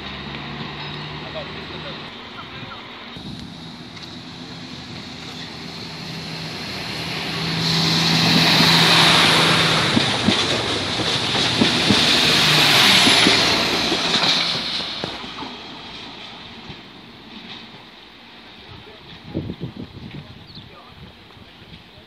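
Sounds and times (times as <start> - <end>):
wheels clicking over rail joints: 0.0 - 2.5, 3.2 - 20.4
diesel railcar engine drone: 0.0 - 22.0
train rushing rumble: 0.0 - 22.0.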